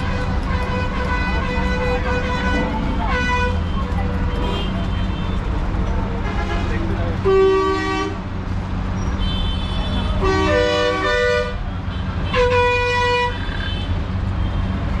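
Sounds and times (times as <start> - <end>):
vehicle horns blasting: 0.0 - 5.4, 6.2 - 8.2, 9.0 - 14.7.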